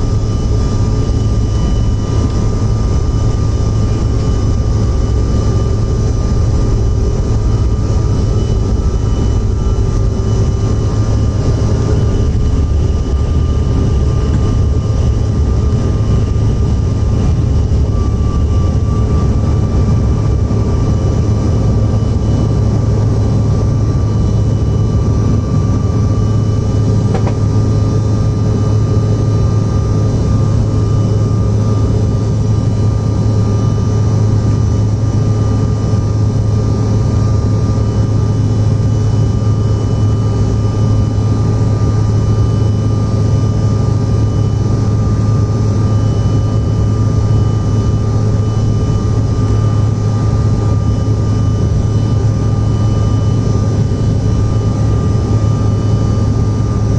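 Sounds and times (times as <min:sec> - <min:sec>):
faint high whines: 0:00.0 - 0:56.9
jet engine cabin hum: 0:00.0 - 0:56.9.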